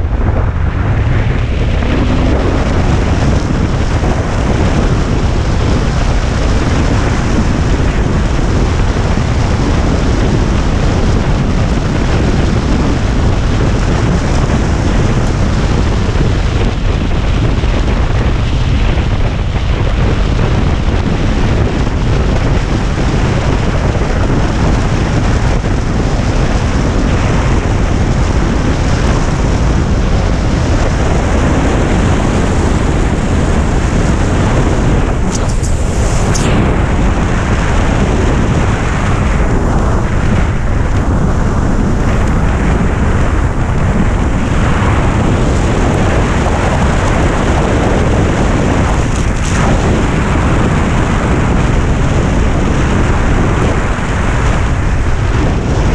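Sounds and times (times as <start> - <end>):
wind roar on microphone: 0.0 - 55.9.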